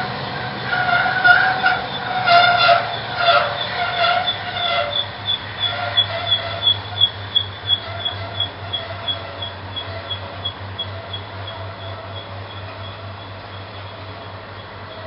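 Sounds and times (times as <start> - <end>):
freight cars rumbling: 0.0 - 15.0
low squealing tones: 0.0 - 15.0
freight car running gear squeaking: 0.6 - 15.0.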